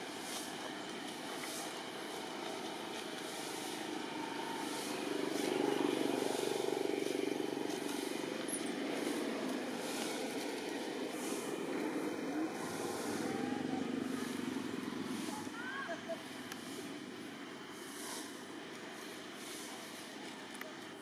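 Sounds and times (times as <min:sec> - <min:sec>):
steady outdoor noise: 0:00.0 - 0:21.0
motor vehicle passing: 0:00.2 - 0:18.4.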